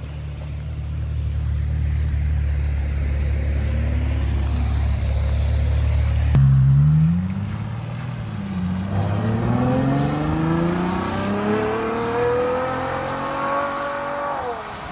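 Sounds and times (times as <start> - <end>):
car engine accelerating hard: 0.4 - 14.9.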